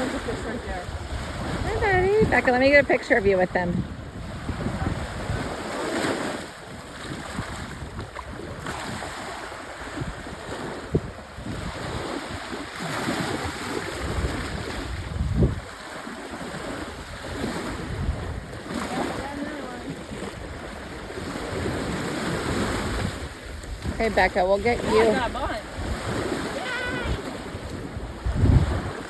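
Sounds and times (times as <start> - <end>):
wind buffeting microphone: 0.0 - 15.8, 16.5 - 29.0
open water washing: 0.0 - 29.0.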